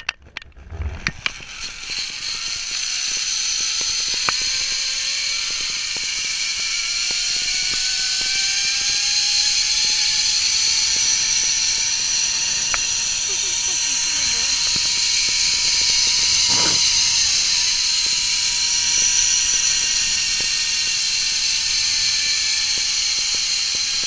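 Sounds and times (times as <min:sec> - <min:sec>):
zip-line pulleys whirring on cable: 0:00.6 - 0:24.0.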